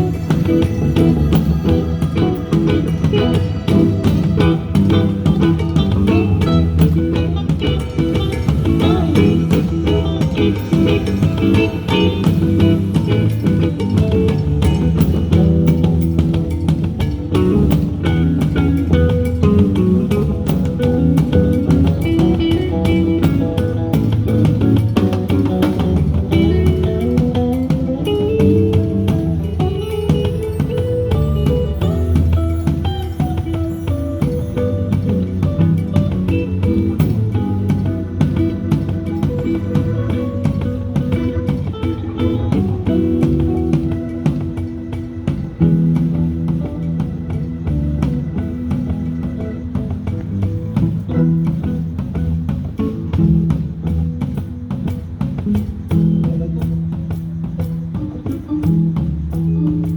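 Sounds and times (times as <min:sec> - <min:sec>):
drum beat: 0:00.0 - 0:59.9
guitar: 0:00.0 - 0:59.9
live band playing: 0:00.0 - 0:59.9.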